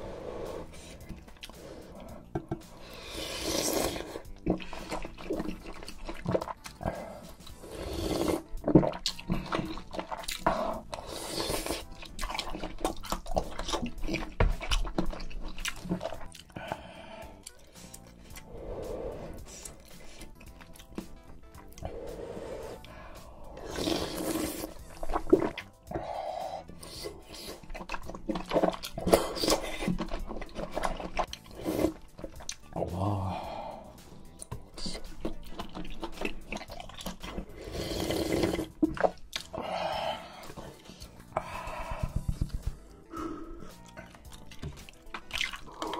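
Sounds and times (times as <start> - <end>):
person slurping broth: 0.0 - 45.9
wet chewing: 0.4 - 45.9.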